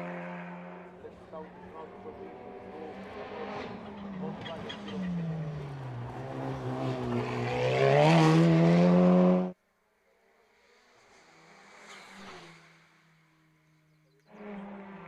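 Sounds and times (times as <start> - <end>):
faint car engine: 0.0 - 15.0.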